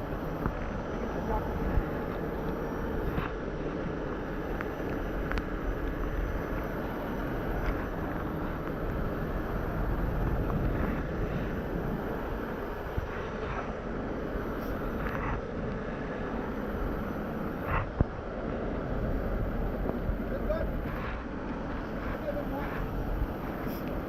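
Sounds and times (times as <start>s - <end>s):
heavy vehicles rumbling: 0.0s - 24.0s.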